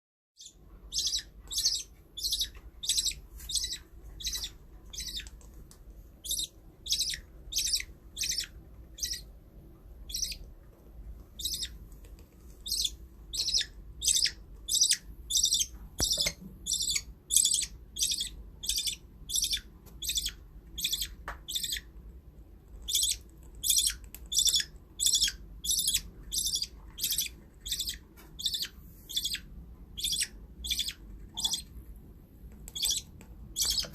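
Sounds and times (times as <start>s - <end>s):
budgerigar chirping: 0.4s - 5.3s, 6.2s - 9.3s, 10.0s - 10.5s, 11.4s - 11.8s, 12.6s - 21.9s, 22.8s - 31.7s, 32.7s - 33.9s.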